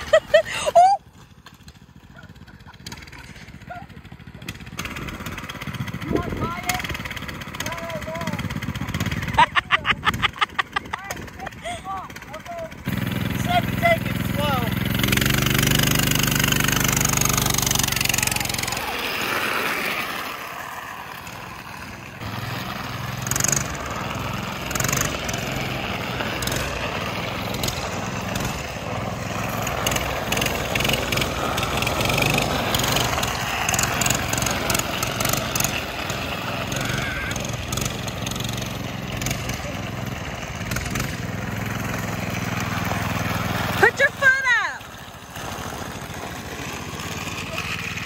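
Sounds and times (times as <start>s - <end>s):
mini bike engine running: 0.0s - 48.0s.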